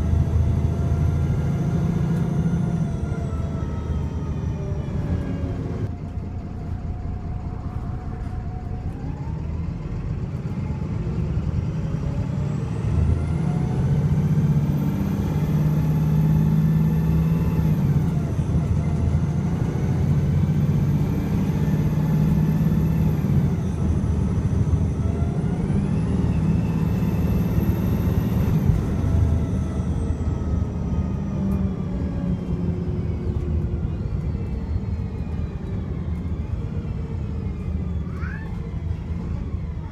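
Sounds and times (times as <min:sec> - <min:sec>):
bus engine accelerating: 0:00.0 - 0:39.9.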